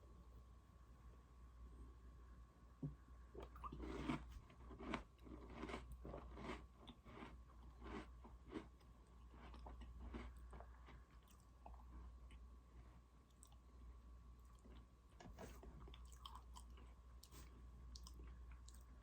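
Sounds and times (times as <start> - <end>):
crunchy cookie chewing: 3.4 - 19.0.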